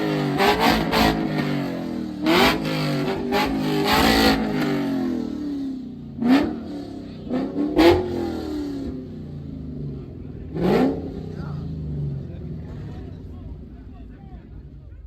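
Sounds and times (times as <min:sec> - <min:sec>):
car engine throttle blips: 0:00.0 - 0:15.0.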